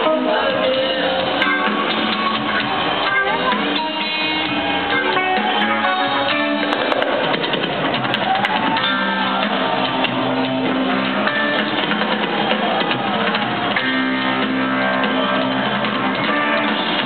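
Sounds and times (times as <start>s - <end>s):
electric guitar lines: 0.0s - 17.0s
live rock band playing: 0.0s - 17.0s.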